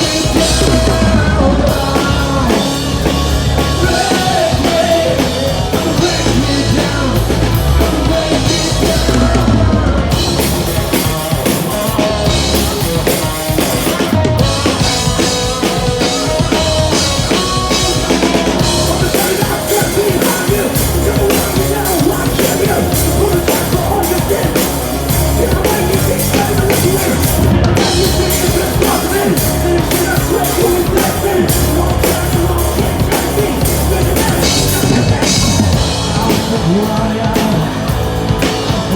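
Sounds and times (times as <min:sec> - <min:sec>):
bass guitar: 0:00.0 - 0:38.9
drum kit: 0:00.0 - 0:38.9
electric guitars: 0:00.0 - 0:38.9.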